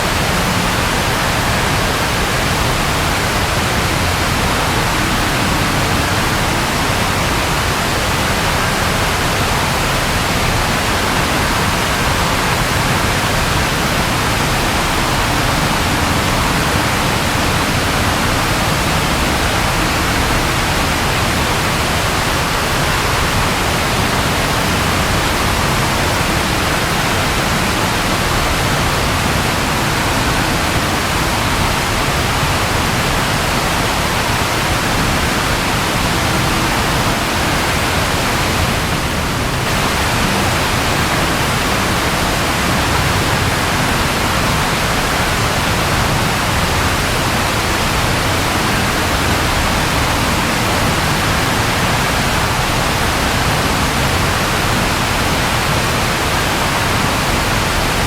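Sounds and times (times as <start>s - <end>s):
dense rainfall hiss: 0.0s - 58.0s.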